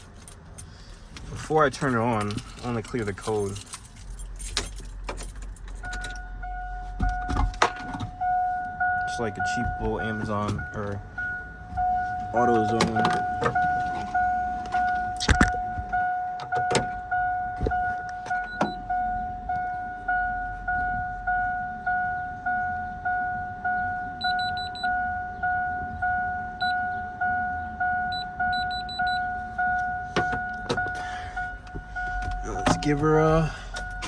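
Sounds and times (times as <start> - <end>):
vehicle warning chime dinging: 1.4 - 34.0.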